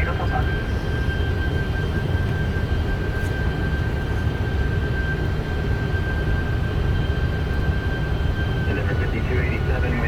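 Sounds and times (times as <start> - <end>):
rumble of airflow and engines: 0.0 - 10.0.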